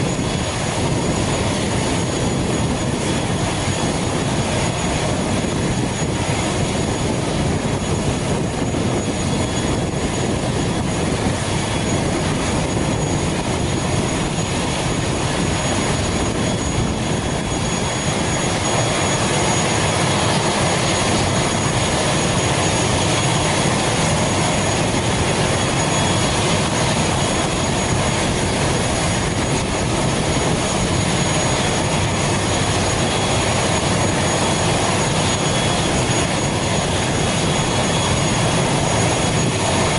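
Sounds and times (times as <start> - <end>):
turboprop engine roaring with whine: 0.0 - 39.9.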